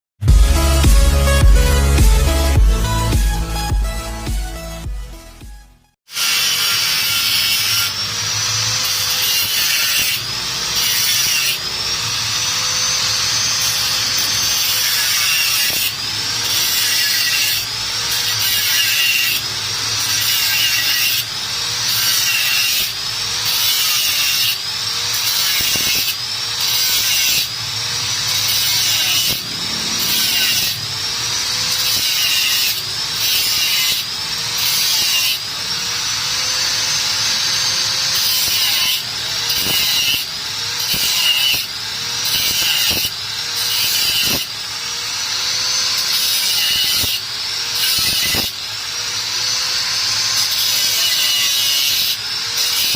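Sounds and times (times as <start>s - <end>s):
saw cutting metal: 6.1s - 52.9s.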